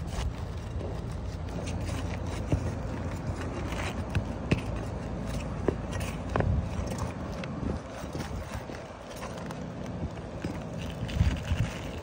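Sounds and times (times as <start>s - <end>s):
pry bar scraping under shingles: 0.0s - 12.0s.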